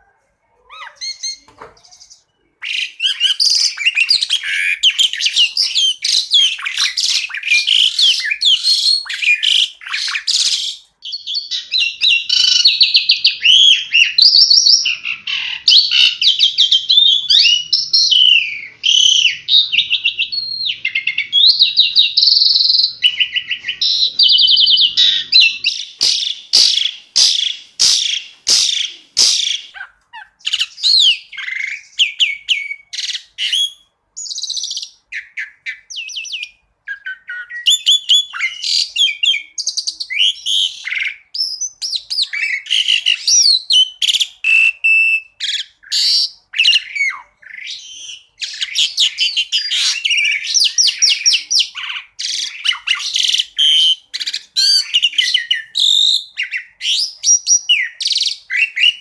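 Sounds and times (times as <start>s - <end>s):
starling singing varied song: 0.6s - 59.0s.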